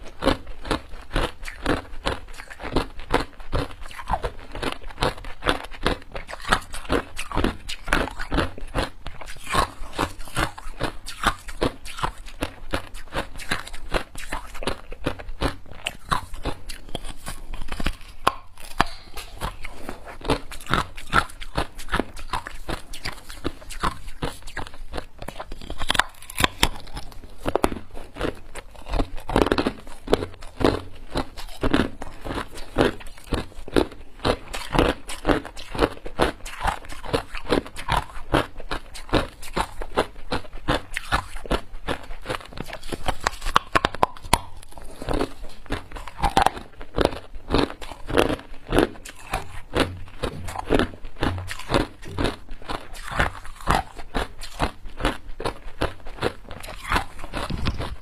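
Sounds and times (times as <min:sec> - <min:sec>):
person chewing ice crunching: 0:00.0 - 0:58.0.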